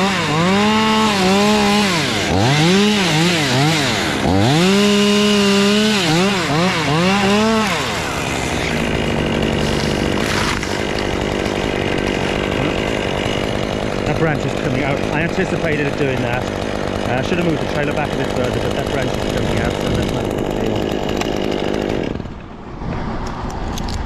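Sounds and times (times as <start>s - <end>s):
chainsaw cutting: 0.0s - 22.6s.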